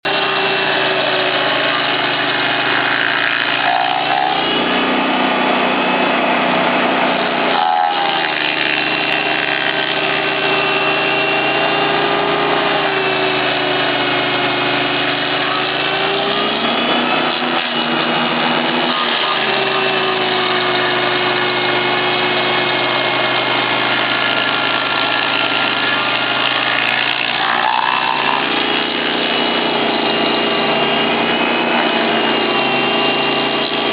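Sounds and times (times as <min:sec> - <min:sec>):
stump grinder engine running hard: 0:00.0 - 0:33.9.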